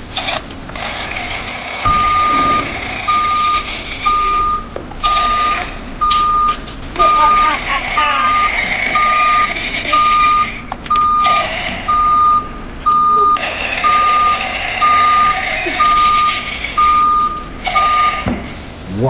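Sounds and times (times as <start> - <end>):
road roller engine running: 0.0 - 18.8
reversing alarm beeping: 1.8 - 18.4.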